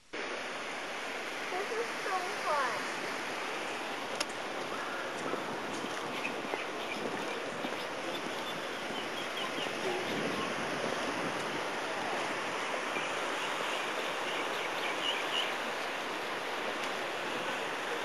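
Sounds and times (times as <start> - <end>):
ocean surf over rocks: 0.0 - 18.0.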